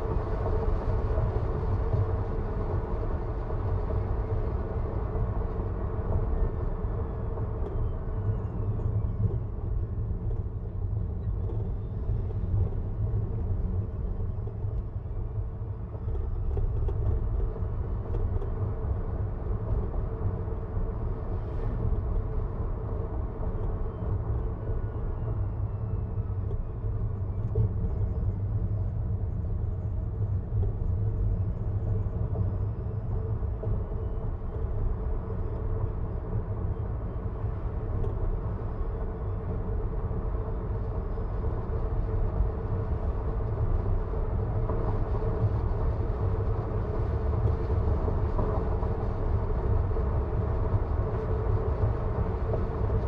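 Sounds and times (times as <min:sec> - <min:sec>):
car road rumble: 0:00.0 - 0:53.0.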